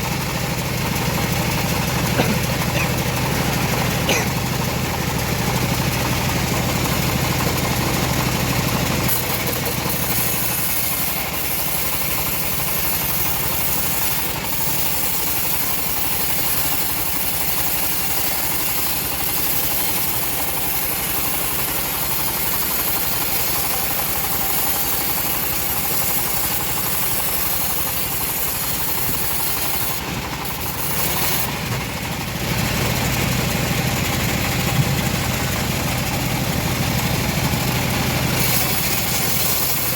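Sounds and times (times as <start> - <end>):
low engine hum: 0.0 - 17.5, 22.9 - 39.9
saw blade hissing through log: 0.0 - 39.9.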